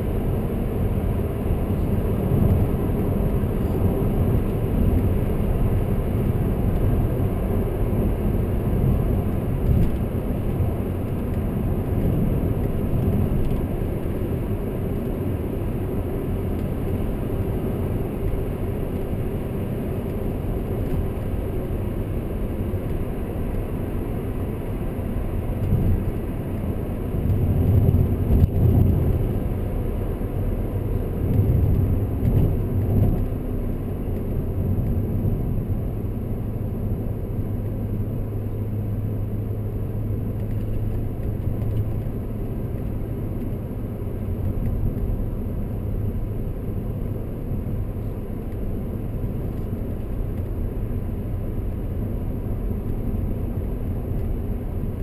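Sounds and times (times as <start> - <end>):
car engine drone inside cabin: 0.0 - 55.0.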